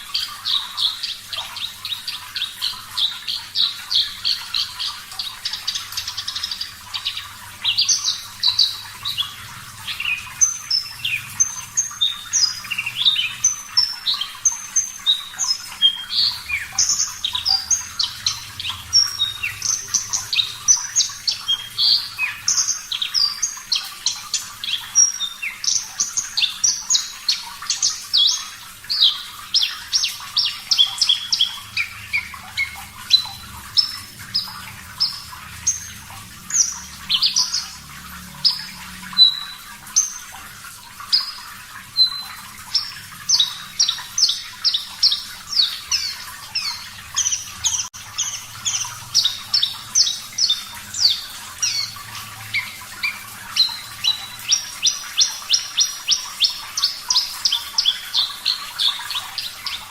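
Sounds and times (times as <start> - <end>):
bird singing whistled trills: 0.0 - 40.3, 42.0 - 59.9
running water hiss: 0.0 - 59.9.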